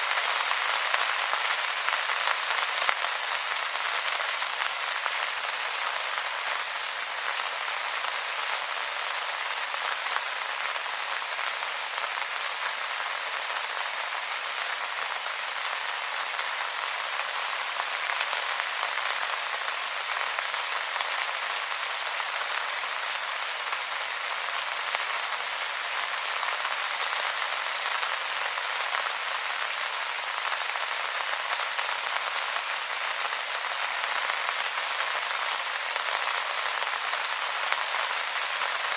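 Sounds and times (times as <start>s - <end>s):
rain falling on wet leaves: 0.0s - 38.9s.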